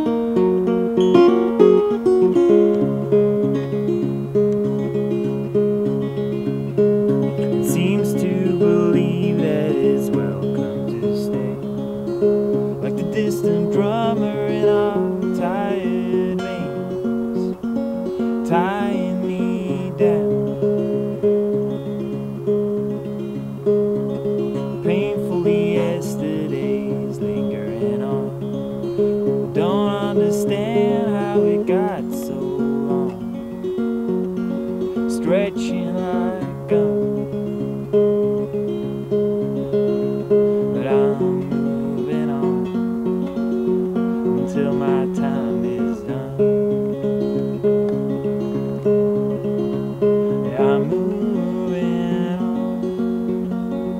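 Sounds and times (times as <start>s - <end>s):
acoustic guitar playing: 0.0s - 53.9s.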